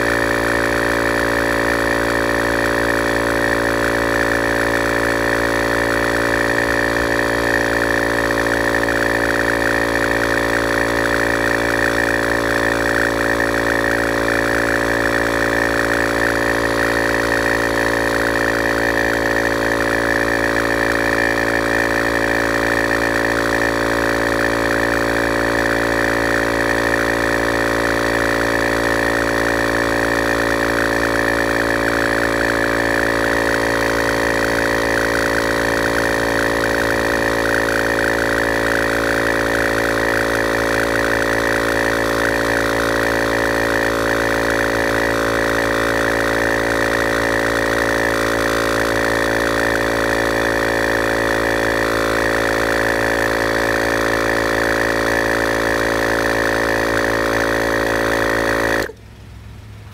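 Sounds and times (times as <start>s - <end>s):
tyre inflator compressor buzzing: 0.0s - 59.1s.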